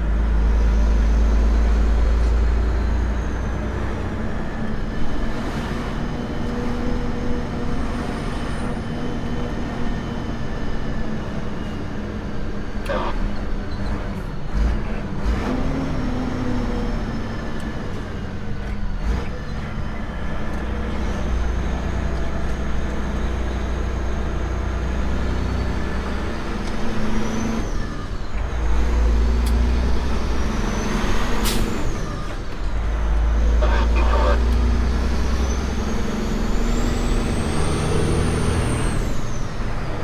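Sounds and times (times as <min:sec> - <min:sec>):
diesel truck engine running: 0:00.0 - 0:40.0.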